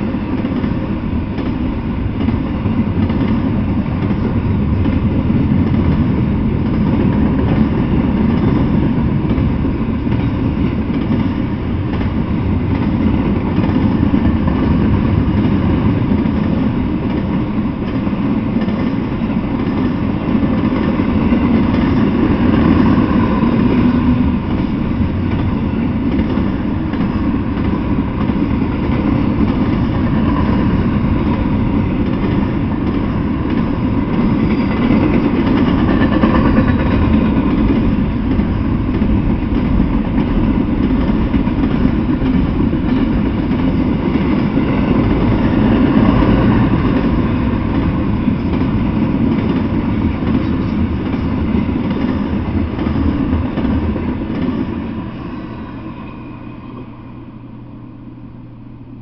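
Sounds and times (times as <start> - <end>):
freight train wheels on track: 0.0 - 59.0.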